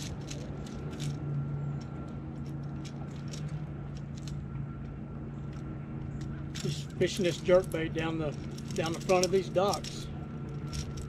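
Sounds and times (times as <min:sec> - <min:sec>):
boat motor hum: 0:00.0 - 0:11.0
light clicks and rattles: 0:00.0 - 0:11.0.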